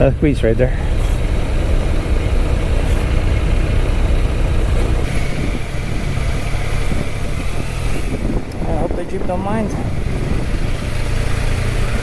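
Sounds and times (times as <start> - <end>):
motorcycle engine at low speed: 0.0 - 12.0
wind and road noise: 0.0 - 12.0.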